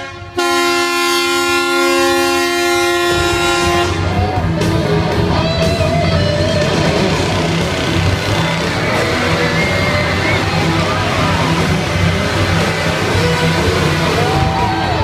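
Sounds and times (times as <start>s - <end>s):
loud horn blast: 0.0s - 4.4s, 7.1s - 14.7s
loud music with a beat: 2.2s - 15.0s
rushing noise: 2.8s - 15.0s.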